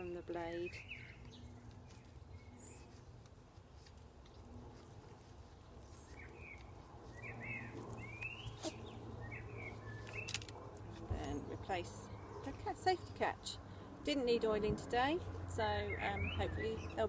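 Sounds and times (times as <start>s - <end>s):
small birds chirping: 0.0s - 13.4s, 15.0s - 17.0s.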